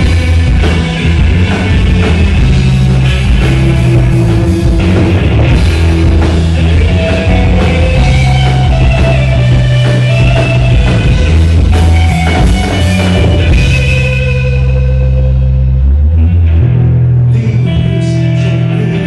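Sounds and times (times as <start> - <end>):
drum kit beat: 0.0 - 15.4
electric guitar: 0.0 - 19.0
live rock band playing: 0.0 - 19.0.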